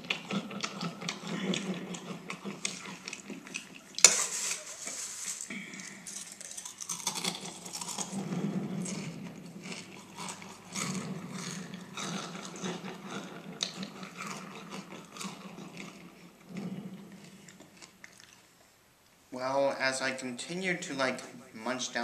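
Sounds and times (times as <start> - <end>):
cereal crunching: 0.0 - 18.4.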